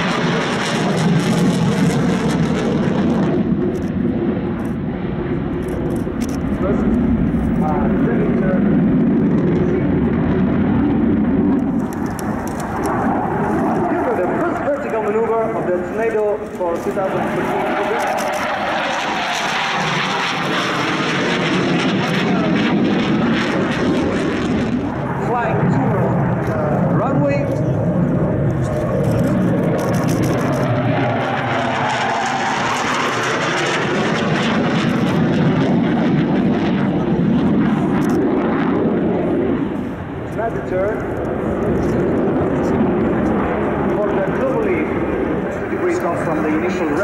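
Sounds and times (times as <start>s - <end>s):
jet flying overhead: 0.0s - 47.0s.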